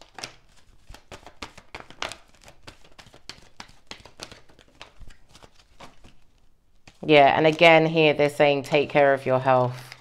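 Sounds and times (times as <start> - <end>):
cards being shuffled: 0.0 - 7.9, 9.6 - 10.0.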